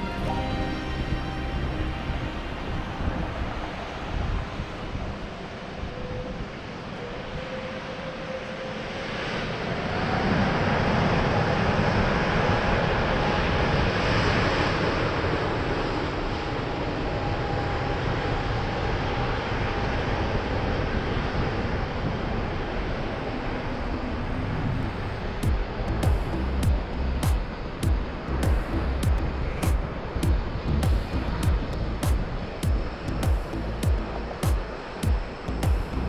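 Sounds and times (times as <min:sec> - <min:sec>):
jet engines rushing and whining: 0:00.0 - 0:36.0.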